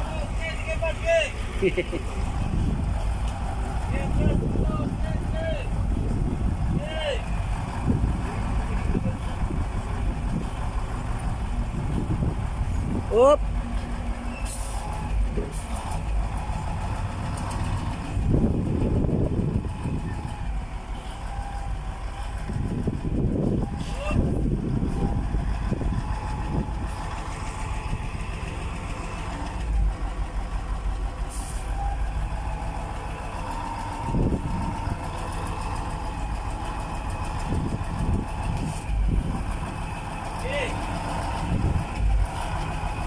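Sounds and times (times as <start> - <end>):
diesel truck engine idling: 0.0 - 43.0.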